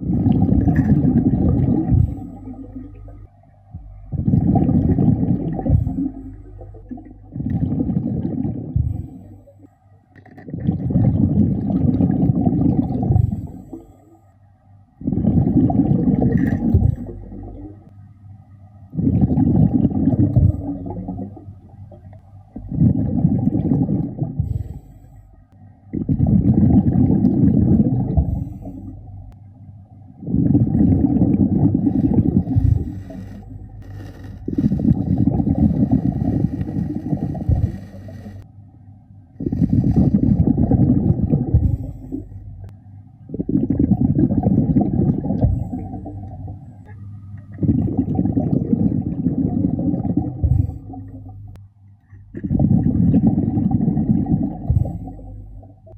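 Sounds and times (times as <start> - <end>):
diver exhaling bubbles underwater: 0.0 - 9.4, 10.2 - 13.8, 15.0 - 17.9, 18.9 - 24.9, 25.9 - 29.1, 30.2 - 38.4, 39.4 - 42.4, 43.3 - 51.6, 52.3 - 55.9.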